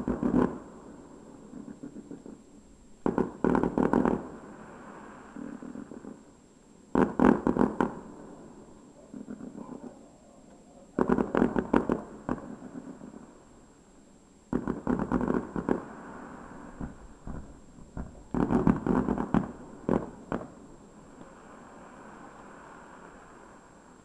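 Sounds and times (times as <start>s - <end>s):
fireworks bangs and crackling: 0.0s - 2.4s, 3.0s - 6.3s, 6.9s - 8.5s, 9.1s - 13.4s, 14.5s - 24.0s.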